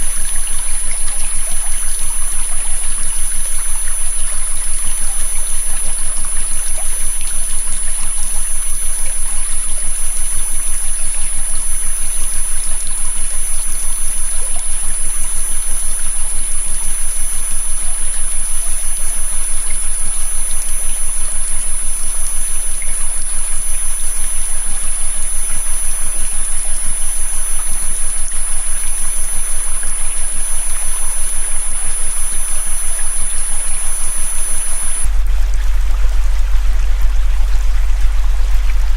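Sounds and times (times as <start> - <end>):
low hum: 0.0 - 38.9
steady high-pitched tone: 0.0 - 38.9.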